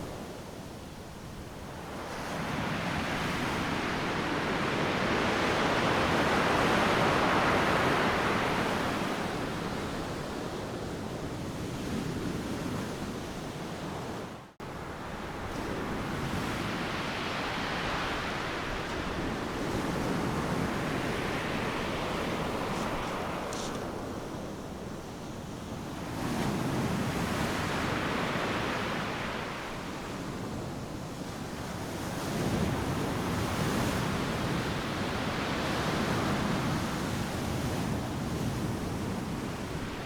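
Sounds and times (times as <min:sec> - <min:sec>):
waves breaking on a beach: 0:00.0 - 0:40.0.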